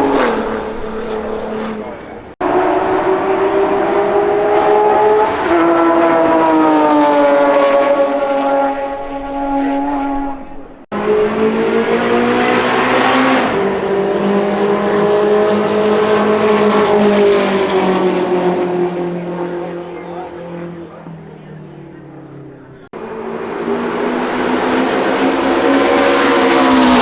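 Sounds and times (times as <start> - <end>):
race car engines at speed: 0.0 - 27.0.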